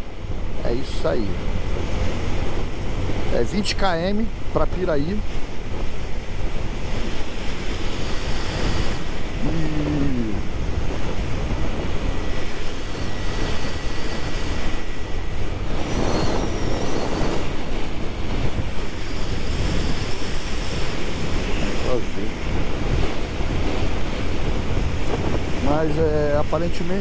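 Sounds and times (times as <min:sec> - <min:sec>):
heavy wind rush: 0:00.0 - 0:27.0.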